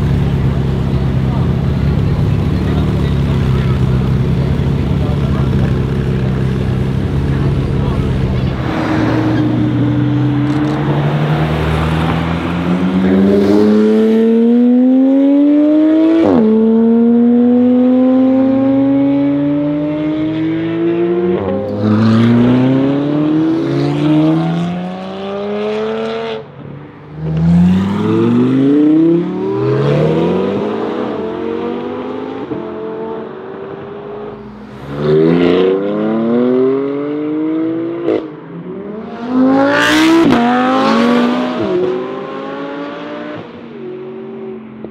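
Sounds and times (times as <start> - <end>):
sports car engines accelerating: 0.0 - 44.9.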